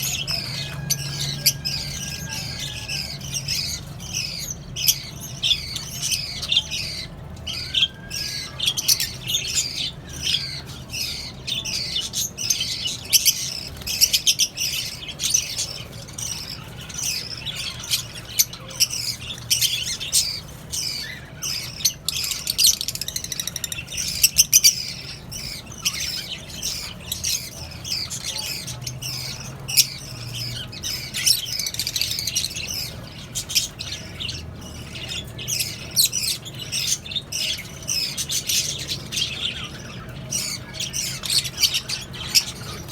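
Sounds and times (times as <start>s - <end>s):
parrots chattering and squawking: 0.0s - 42.9s.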